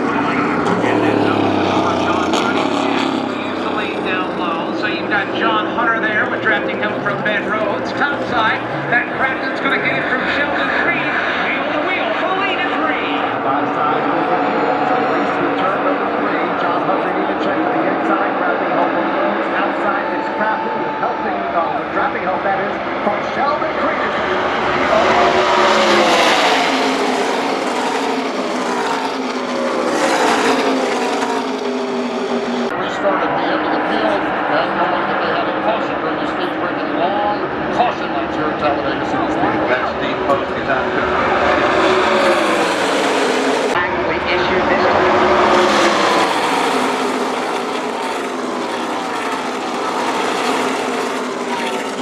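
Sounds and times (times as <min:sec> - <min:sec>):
race trucks passing at full throttle: 0:00.0 - 0:52.0.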